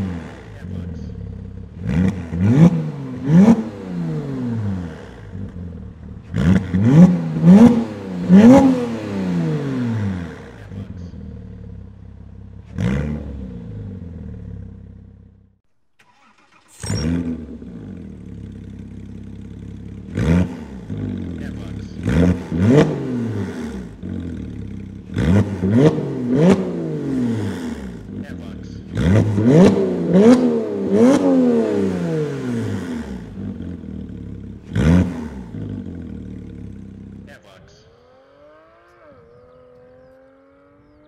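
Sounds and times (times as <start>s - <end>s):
car engine idling: 0.0s - 41.0s
car engine throttle blips: 0.0s - 41.0s.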